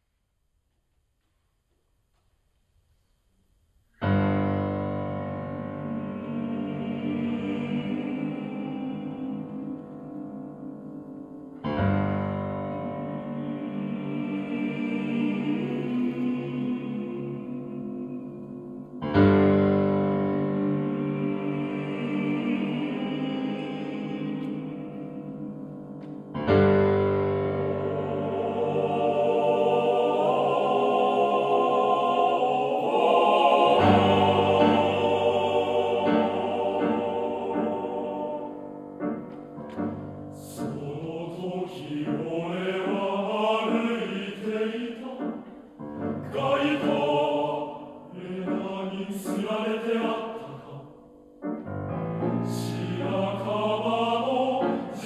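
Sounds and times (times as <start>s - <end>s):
piano chords: 4.1s - 55.0s
male choir singing: 5.4s - 11.9s, 12.5s - 51.0s, 52.3s - 55.0s.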